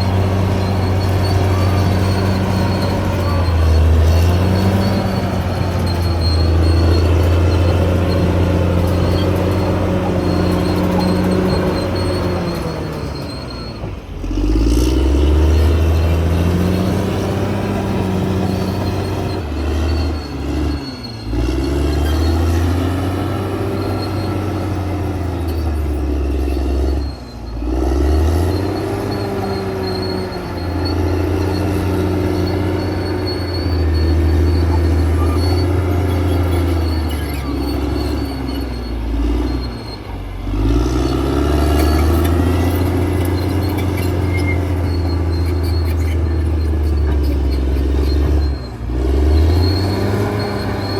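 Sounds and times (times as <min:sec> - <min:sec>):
bulldozer diesel engine under load: 0:00.0 - 0:50.9.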